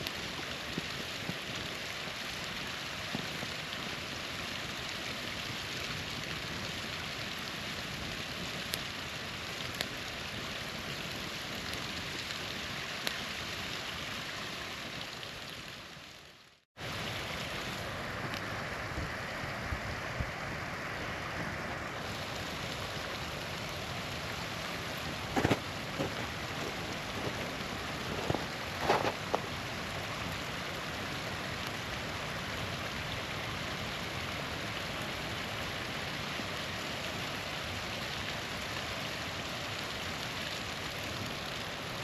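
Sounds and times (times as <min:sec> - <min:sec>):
campfire popping: 0:00.0 - 0:18.5, 0:22.0 - 0:42.0
small waterfall rushing: 0:00.0 - 0:42.0.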